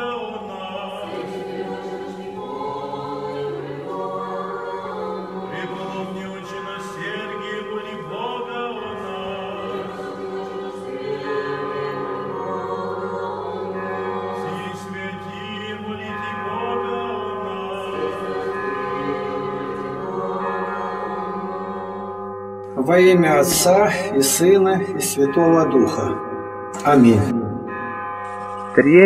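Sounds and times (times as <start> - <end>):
choir singing a chant: 0.0 - 28.0.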